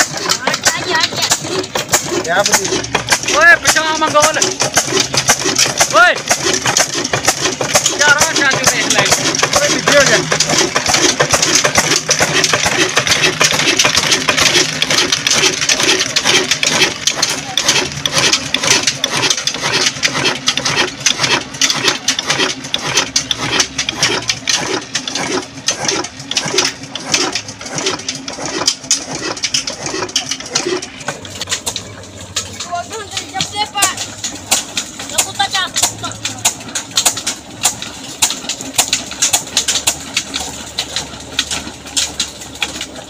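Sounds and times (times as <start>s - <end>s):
diesel engine running steadily: 0.0s - 43.0s
metallic clatter: 0.0s - 43.0s.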